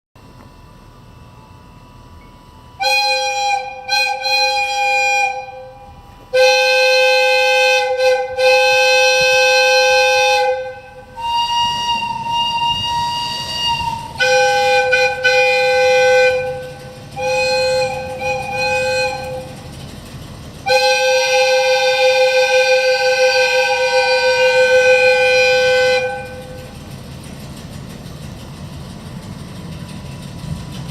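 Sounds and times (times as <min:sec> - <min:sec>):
low steady rumble: 0:00.2 - 0:30.9
locomotive air whistle blasts: 0:00.6 - 0:27.0.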